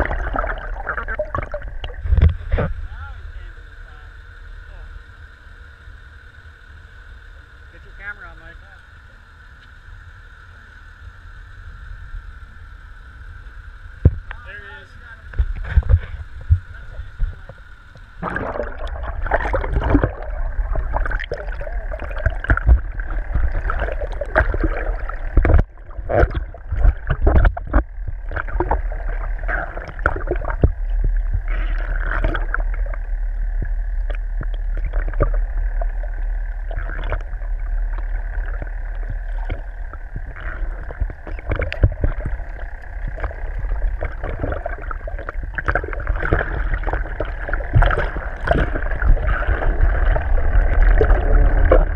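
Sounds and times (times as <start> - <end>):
faint steady hum: 0.0 - 51.9
underwater rumble of water: 0.0 - 51.9.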